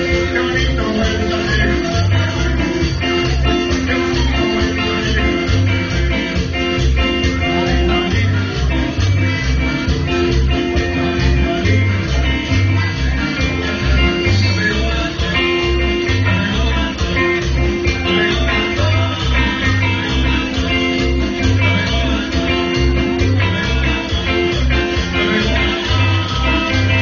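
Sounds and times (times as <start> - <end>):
live band music: 0.0 - 27.0.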